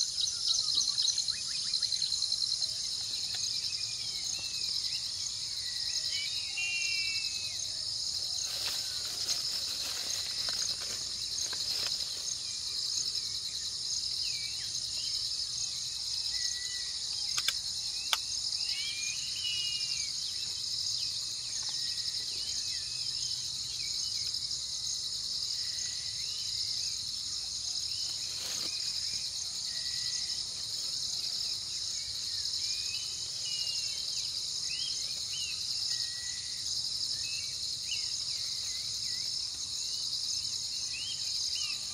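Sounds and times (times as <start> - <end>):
shrill insect chorus: 0.0 - 41.9.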